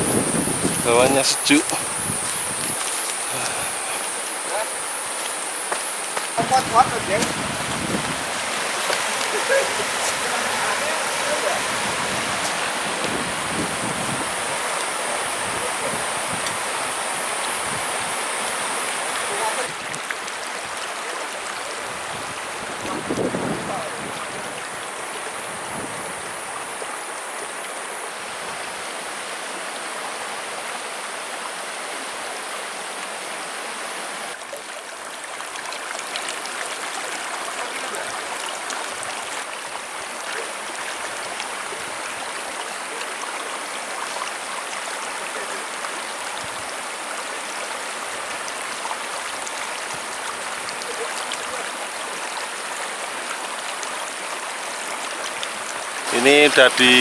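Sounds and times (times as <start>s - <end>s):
river rushing over rocks: 0.0s - 34.4s, 35.4s - 57.0s.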